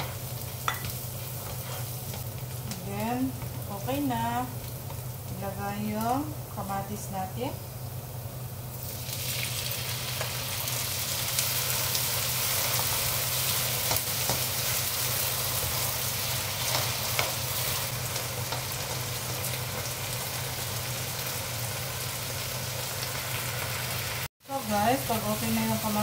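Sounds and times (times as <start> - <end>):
tomatoes sizzling in hot oil: 0.0 - 26.0.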